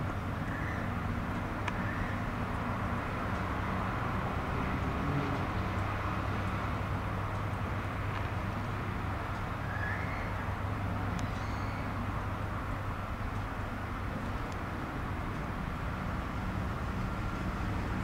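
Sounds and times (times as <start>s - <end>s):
outdoor noise: 0.0s - 18.0s.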